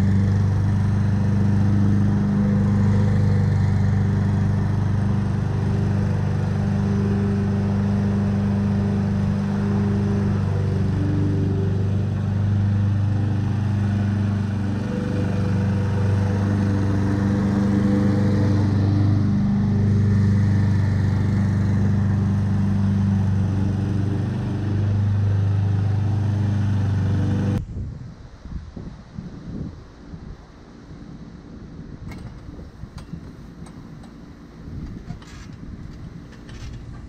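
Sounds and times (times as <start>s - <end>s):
lawn mower engine running: 0.0s - 27.6s, 32.1s - 37.0s.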